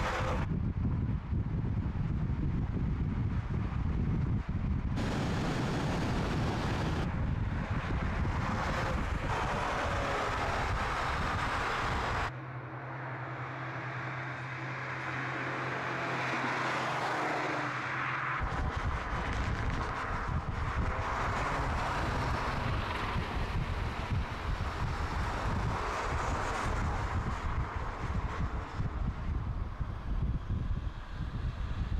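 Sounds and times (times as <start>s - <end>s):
car engine running at speed: 0.0s - 12.3s, 18.4s - 31.9s
tyre and wind rush: 0.0s - 12.4s, 16.0s - 31.9s.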